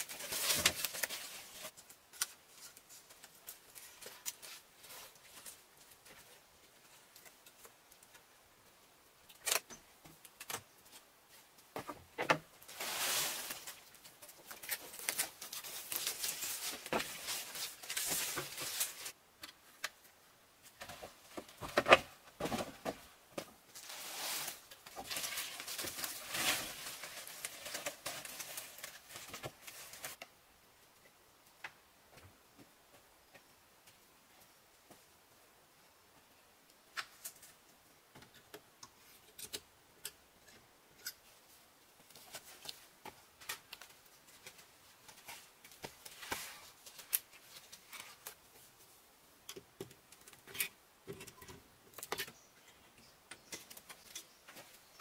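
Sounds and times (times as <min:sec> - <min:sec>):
bamboo panels rustling and clattering: 0:00.0 - 0:30.3, 0:36.8 - 0:55.0.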